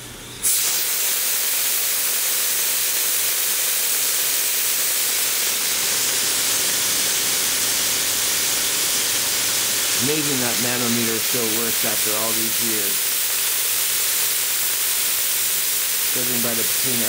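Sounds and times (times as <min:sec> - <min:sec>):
steam hissing from valve: 0:00.4 - 0:17.0.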